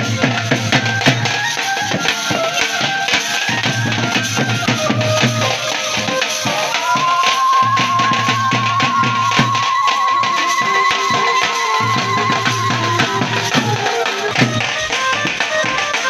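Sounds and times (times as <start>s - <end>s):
busy drum: 0.0s - 16.0s
held melody line: 0.0s - 16.0s
jingling percussion: 0.0s - 16.0s.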